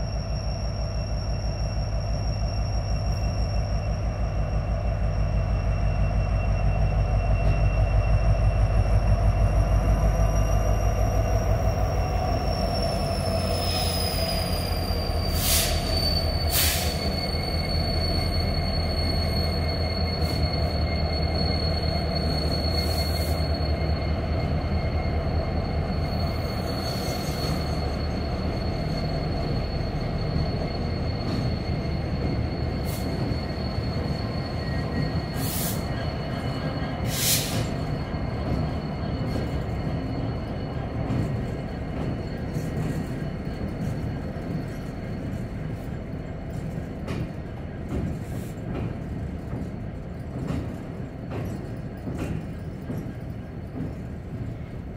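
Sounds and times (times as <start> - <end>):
high-pitched wheel squeal: 0.0 - 54.9
locomotive engines rumbling: 0.0 - 54.9.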